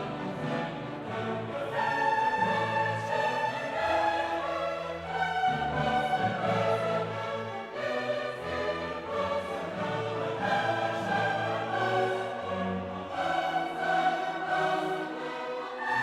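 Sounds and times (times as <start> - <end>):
orchestral music with choir: 0.0 - 16.0.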